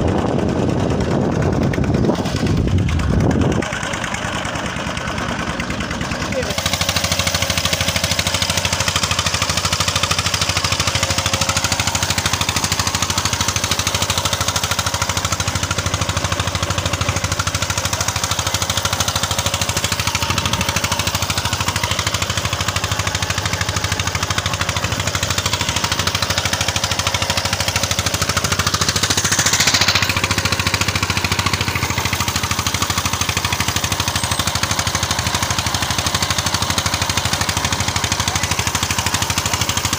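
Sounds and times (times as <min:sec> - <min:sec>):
boat engine chugging: 0:00.0 - 0:39.9.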